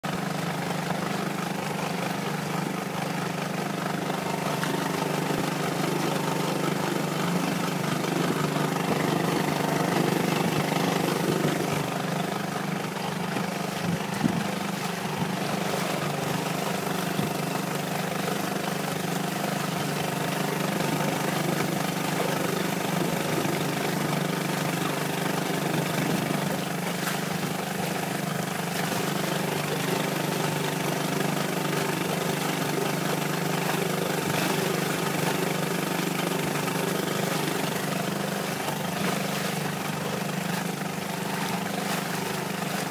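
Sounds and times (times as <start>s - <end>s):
outboard motor running: 0.0s - 42.9s
water and wind noise: 0.1s - 42.9s.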